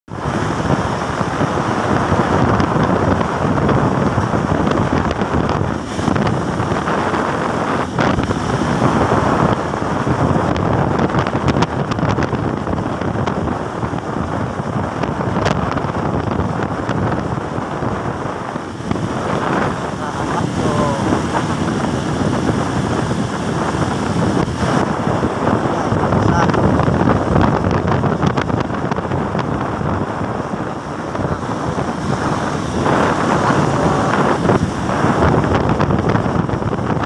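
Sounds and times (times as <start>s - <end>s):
wind buffeting microphone: 0.1s - 37.0s.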